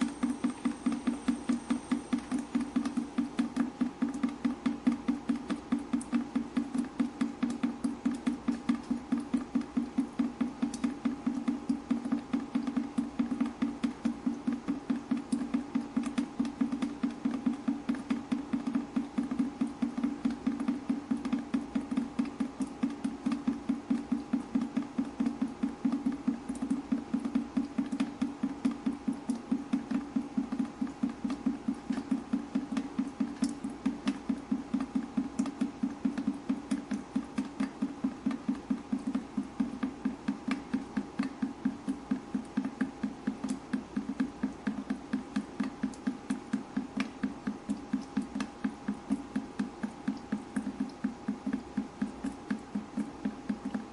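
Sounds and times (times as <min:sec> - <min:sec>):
faint steady hum: 0:00.0 - 0:53.9
water dripping: 0:00.0 - 0:53.9.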